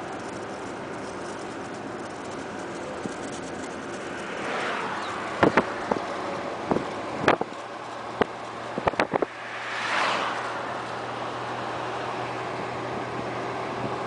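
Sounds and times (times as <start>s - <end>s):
low engine hum: 0.0s - 14.0s
vehicle passing: 1.2s - 14.0s.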